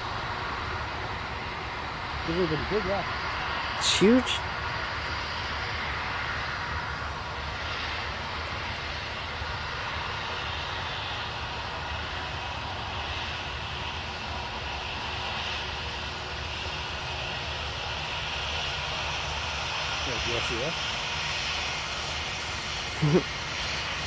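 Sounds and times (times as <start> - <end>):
jet engines rumbling and hissing: 0.0 - 24.0.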